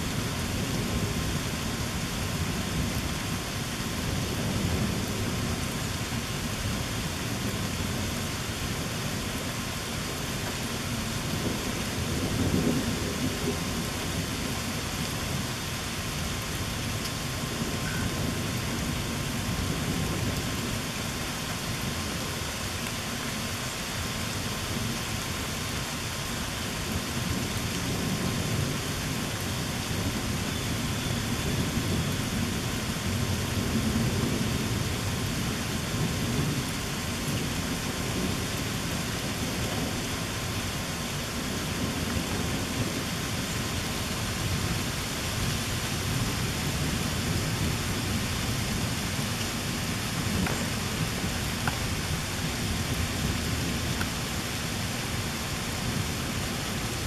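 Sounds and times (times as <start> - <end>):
low rumble of thunder: 0.0 - 22.5, 24.0 - 57.0
steady rain falling: 0.0 - 57.0.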